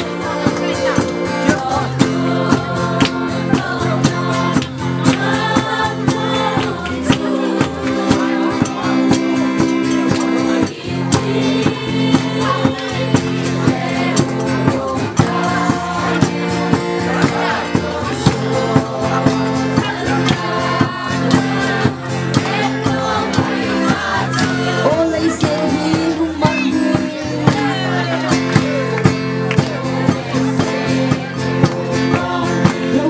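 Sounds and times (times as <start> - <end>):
group singing: 0.0 - 33.0
music with percussive beat: 0.0 - 33.0.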